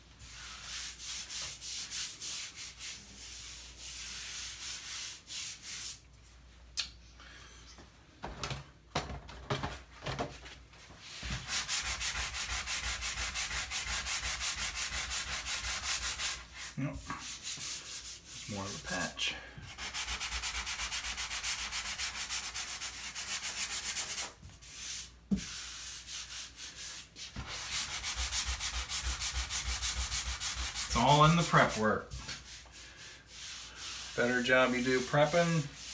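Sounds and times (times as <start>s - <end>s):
sanding sponge scrubbing drywall: 0.0s - 6.1s, 11.0s - 35.9s.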